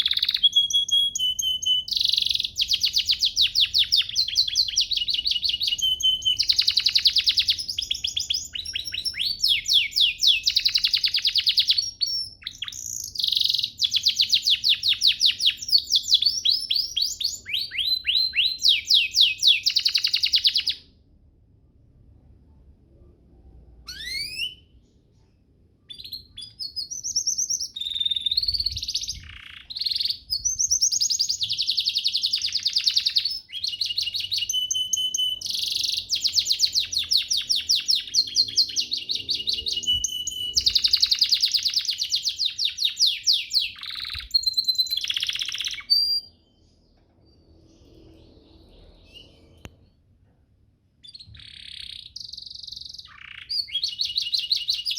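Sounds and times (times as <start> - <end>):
canary singing trills: 0.0 - 21.0, 23.8 - 49.7, 51.0 - 54.9.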